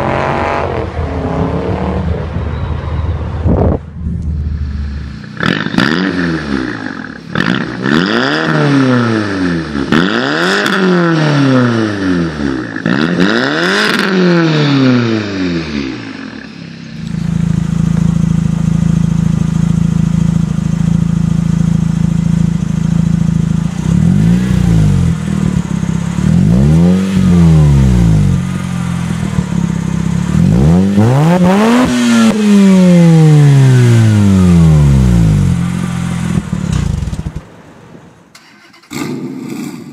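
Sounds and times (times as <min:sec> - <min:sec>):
rotary engine idling and revving: 0:00.0 - 0:37.5
four-cylinder engine revving with pops: 0:04.1 - 0:16.2, 0:17.0 - 0:37.5.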